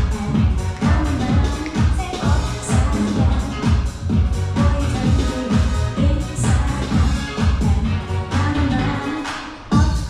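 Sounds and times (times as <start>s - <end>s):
deep kick drum: 0.0s - 8.0s, 9.7s - 10.0s
music with layered instruments: 0.0s - 10.0s.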